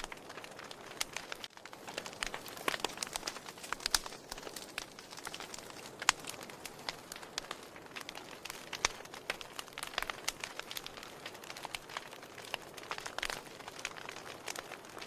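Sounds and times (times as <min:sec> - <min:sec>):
fire hissing: 0:00.0 - 0:15.0
logs crackling and popping: 0:00.0 - 0:15.0.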